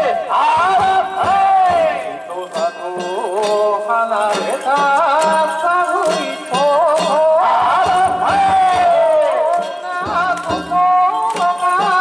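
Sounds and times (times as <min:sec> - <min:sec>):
irregular percussion strikes: 0:00.0 - 0:12.0.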